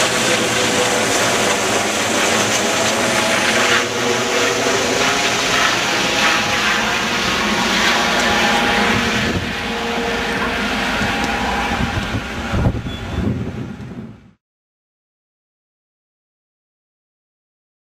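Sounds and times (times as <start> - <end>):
helicopter rotor and turbine: 0.0 - 14.4.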